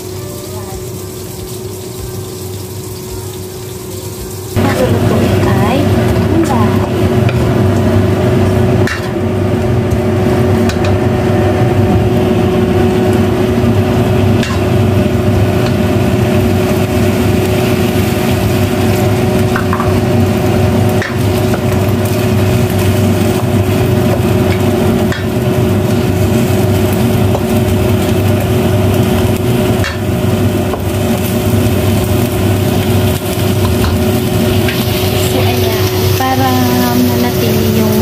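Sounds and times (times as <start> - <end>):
vegetables sizzling in a wok: 0.0 - 38.0
loud steady hum: 2.9 - 38.0.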